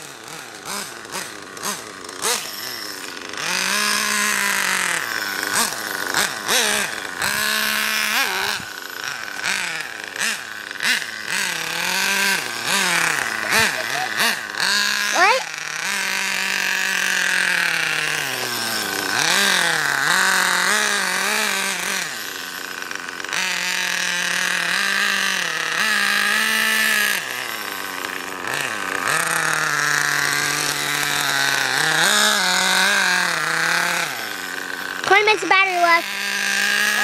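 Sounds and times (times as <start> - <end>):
model car engine revving: 0.0 - 37.0.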